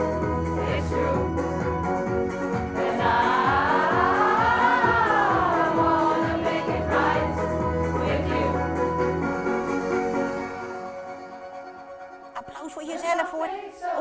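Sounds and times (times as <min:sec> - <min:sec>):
choir singing held chords: 0:00.0 - 0:12.1, 0:13.0 - 0:14.0.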